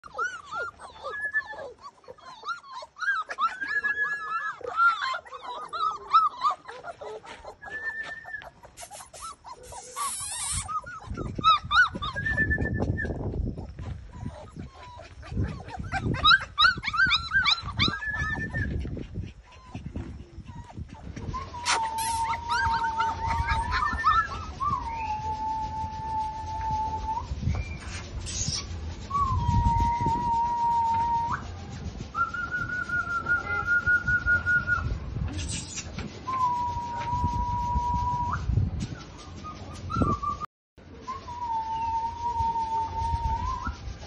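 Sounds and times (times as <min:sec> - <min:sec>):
puppies whining and whimpering: 0:00.0 - 0:44.0.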